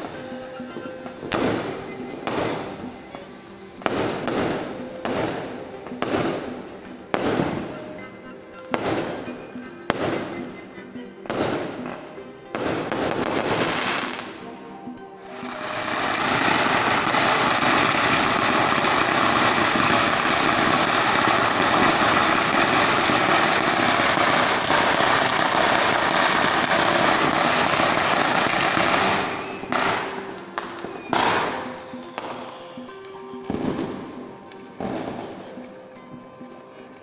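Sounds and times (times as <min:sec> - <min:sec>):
firecracker bangs: 0:00.0 - 0:14.4, 0:15.2 - 0:32.7, 0:33.5 - 0:34.2
firecrackers crackling: 0:00.0 - 0:36.0.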